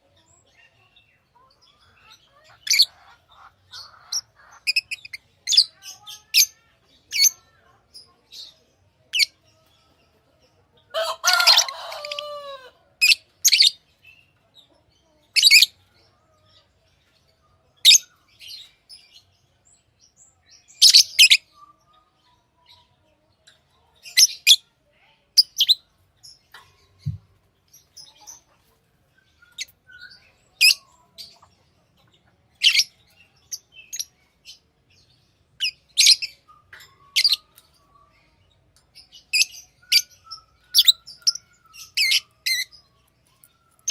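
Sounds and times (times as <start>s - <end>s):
birds chattering calls: 0.0s - 24.6s, 25.3s - 43.9s
lovebirds chirping: 0.0s - 43.9s.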